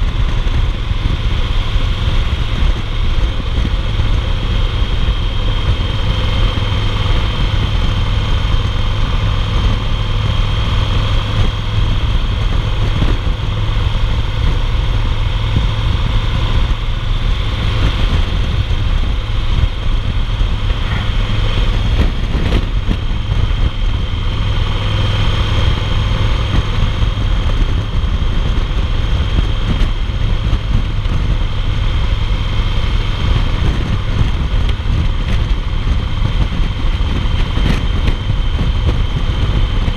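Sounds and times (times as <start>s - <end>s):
motorcycle engine low rumble: 0.0s - 39.9s
wind and road rush: 0.0s - 39.9s.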